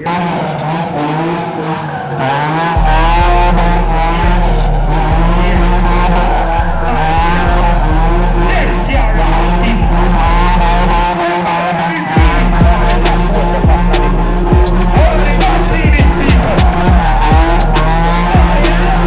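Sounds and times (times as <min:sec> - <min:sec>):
car engine revving: 0:00.0 - 0:19.0
tyres squealing: 0:00.0 - 0:19.0
heavy bass beat: 0:02.4 - 0:11.4, 0:12.1 - 0:19.0.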